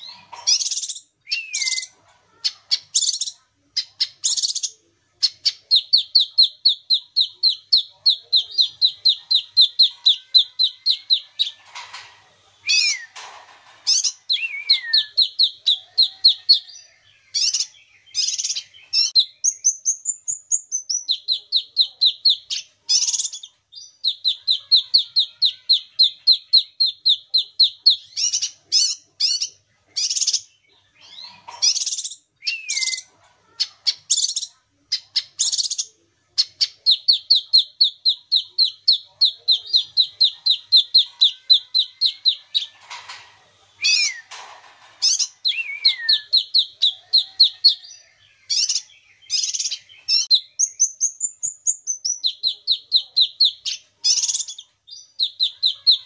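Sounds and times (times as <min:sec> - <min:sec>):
bird singing trills: 0:00.0 - 0:11.9, 0:13.9 - 0:43.1, 0:43.8 - 0:56.0.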